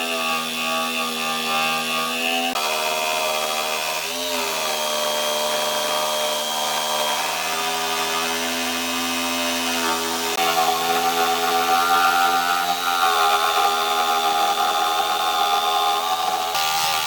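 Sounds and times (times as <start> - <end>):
electric power tool humming: 0.0 - 17.0.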